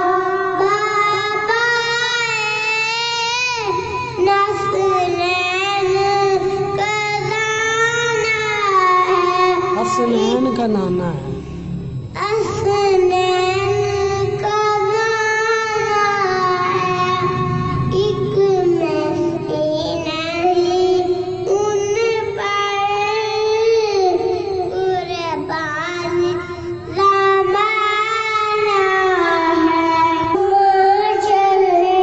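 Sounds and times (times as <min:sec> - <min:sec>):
boy singing into a microphone: 0:00.0 - 0:10.8, 0:12.2 - 0:32.0.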